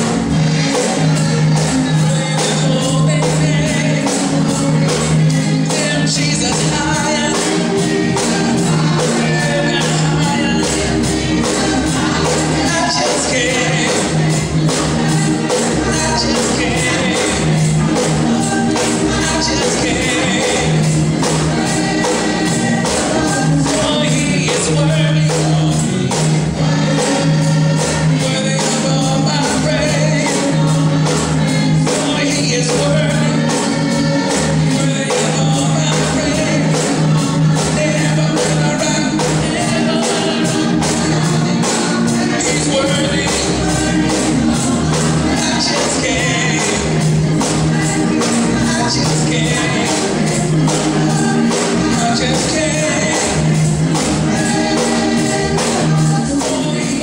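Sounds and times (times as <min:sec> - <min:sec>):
choir singing: 0:00.0 - 0:57.0
instrumental accompaniment: 0:00.0 - 0:57.0.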